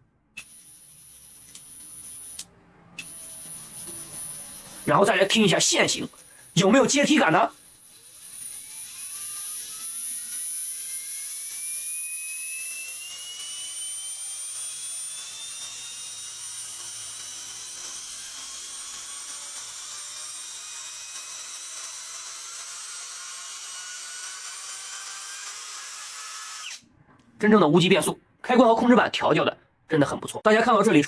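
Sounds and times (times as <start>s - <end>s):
cordless impact driver motor whine: 0.4s - 26.8s.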